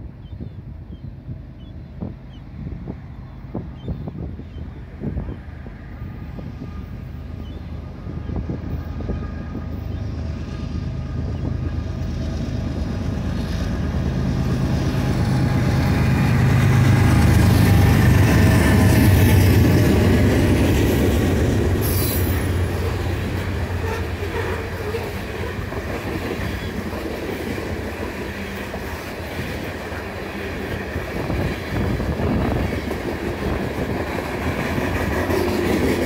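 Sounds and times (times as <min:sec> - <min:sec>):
diesel locomotive engine drone: 0:00.0 - 0:36.0.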